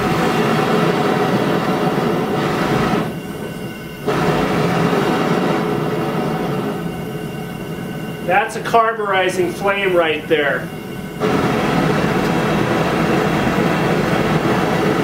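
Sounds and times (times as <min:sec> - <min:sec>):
propane burner hissing: 0:00.0 - 0:15.0.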